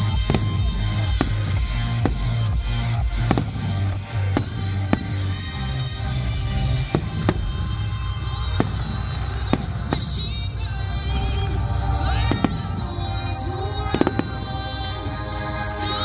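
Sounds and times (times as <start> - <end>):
fireworks bursting with bangs: 0.0 - 15.0
show music with heavy bass beat: 0.0 - 16.0.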